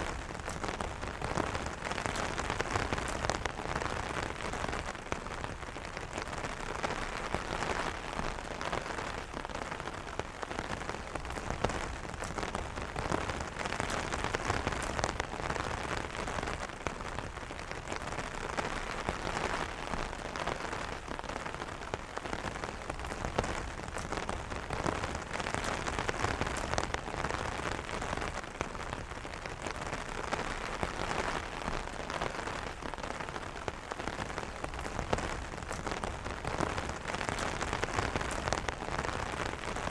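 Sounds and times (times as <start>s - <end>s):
rain on umbrella: 0.0s - 39.9s.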